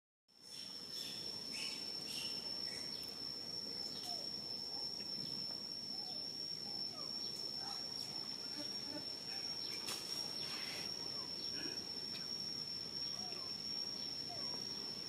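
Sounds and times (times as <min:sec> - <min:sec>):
faint insect chirps: 0:00.3 - 0:15.0
high-pitched insect drone: 0:00.3 - 0:15.0.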